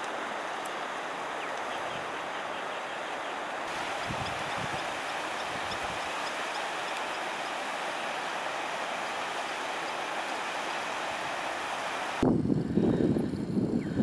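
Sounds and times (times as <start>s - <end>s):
flood water rushing: 0.0s - 12.2s.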